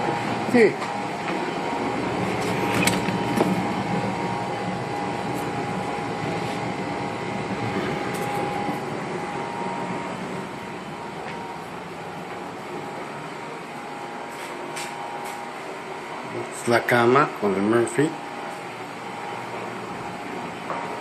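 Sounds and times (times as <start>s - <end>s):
faint steady whine: 0.0s - 21.0s
steady mechanical hum: 0.0s - 21.0s.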